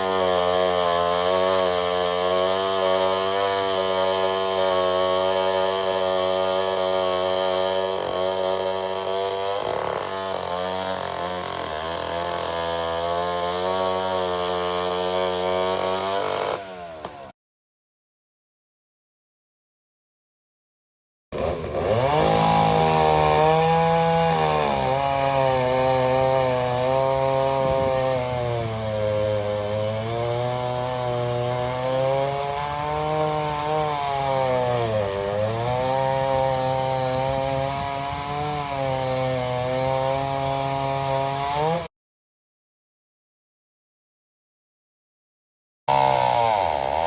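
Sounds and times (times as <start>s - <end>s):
chainsaw engine cutting: 0.0s - 17.3s, 21.4s - 41.9s, 45.9s - 47.0s.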